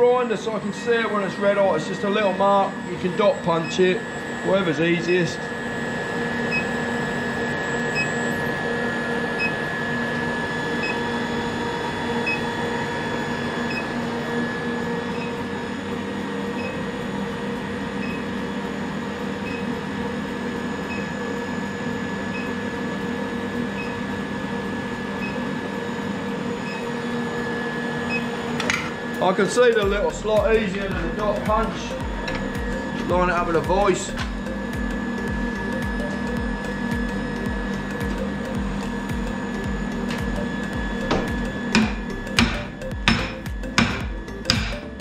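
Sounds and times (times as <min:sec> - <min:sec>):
induction heater humming: 0:00.0 - 0:45.0.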